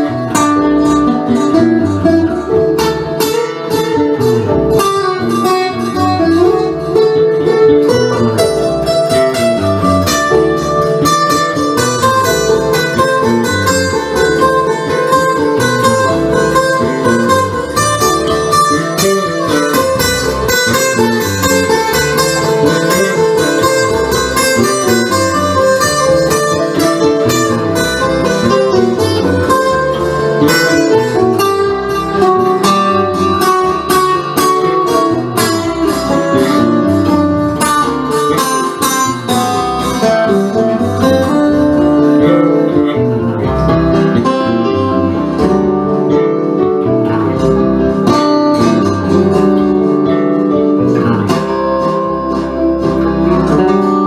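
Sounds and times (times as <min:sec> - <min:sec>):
guitar picking plucked notes: 0:00.0 - 0:54.0.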